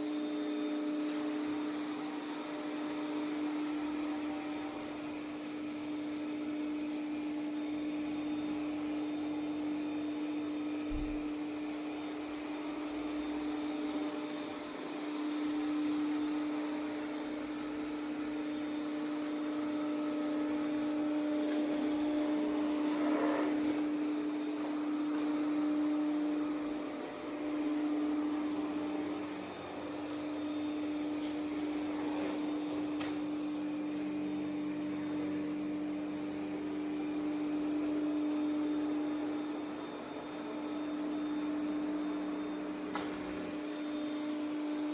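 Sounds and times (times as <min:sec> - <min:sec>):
robot vacuum motor hum: 0:00.1 - 0:44.9.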